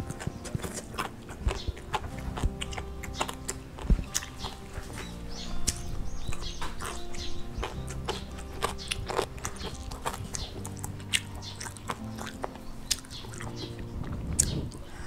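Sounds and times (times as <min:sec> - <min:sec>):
person chewing food: 0:00.0 - 0:15.0
sharp mouth clicks: 0:00.0 - 0:15.0.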